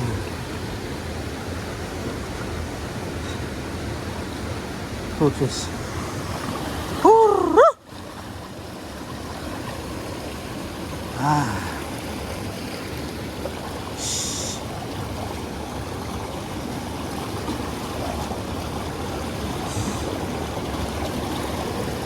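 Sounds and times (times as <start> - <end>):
river water running: 0.0 - 22.0.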